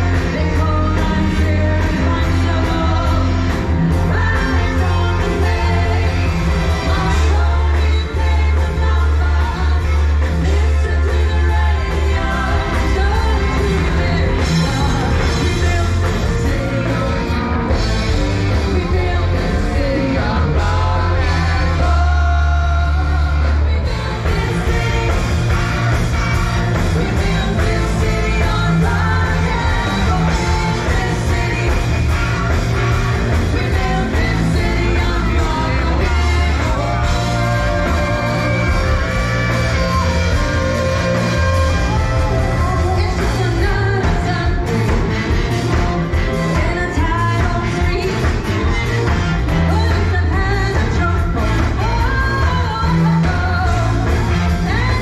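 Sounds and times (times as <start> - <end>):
heavy bass line: 0.0 - 55.0
live rock band playing: 0.0 - 55.0
person singing: 0.0 - 55.0.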